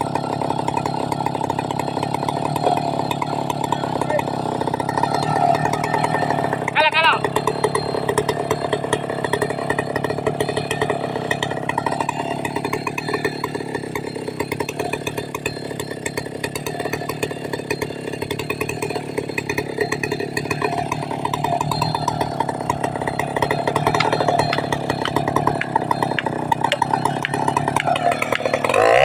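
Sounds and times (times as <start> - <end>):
chainsaw engine running: 0.0 - 29.0.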